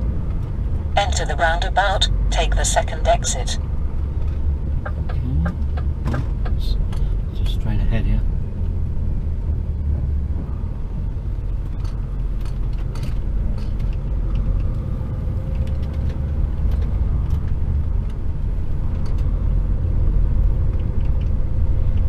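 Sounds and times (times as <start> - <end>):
truck diesel engine and road noise: 0.0 - 22.0.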